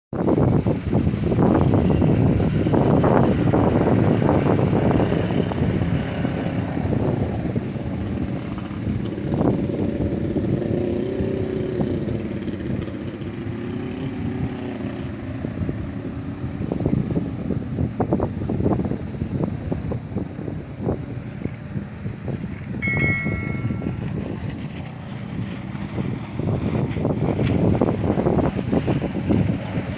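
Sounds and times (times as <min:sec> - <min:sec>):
wind buffeting microphone: 0:00.1 - 0:29.9
low wavering wind howl: 0:00.2 - 0:29.9.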